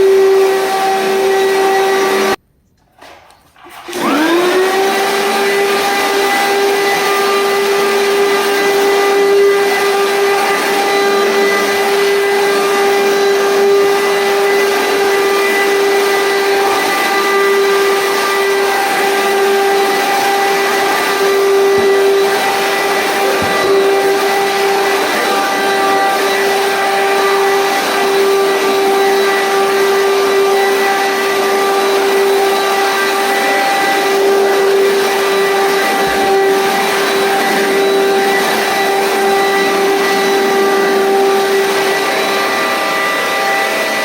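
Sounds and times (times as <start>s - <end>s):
vacuum cleaner motor whining: 0.0s - 44.0s.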